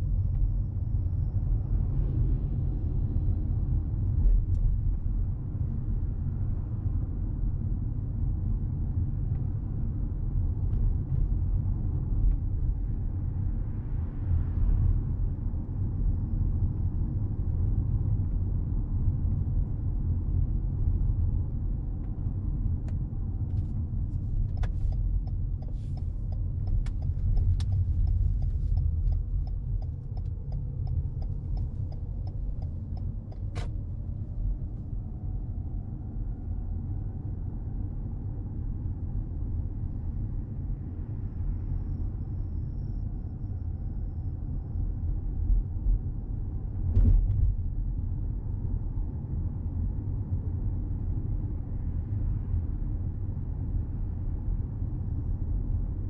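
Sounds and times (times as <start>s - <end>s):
low cabin rumble: 0.0s - 56.0s
road and tyre noise: 0.0s - 56.0s.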